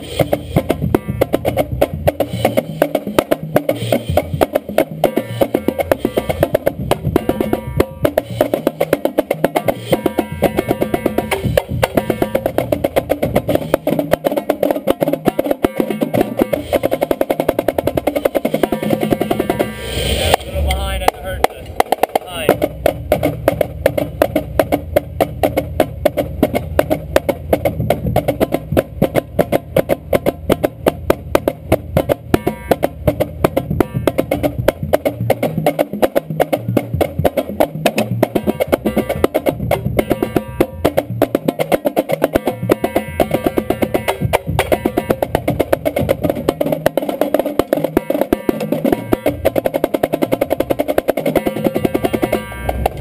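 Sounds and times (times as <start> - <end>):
low bass drum: 0.0 - 53.0
marching drumline playing: 0.0 - 53.0
tenor drum strokes: 0.0 - 53.0.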